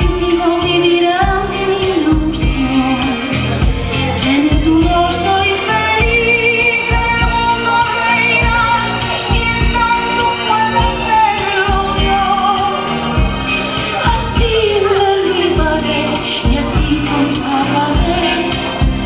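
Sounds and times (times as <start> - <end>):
pop song with woman singing: 0.0 - 19.0.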